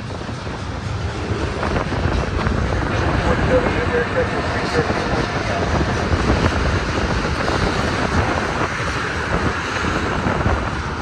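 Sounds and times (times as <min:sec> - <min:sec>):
freight train rumbling past: 0:00.0 - 0:11.0
wind buffeting microphone: 0:00.0 - 0:11.0.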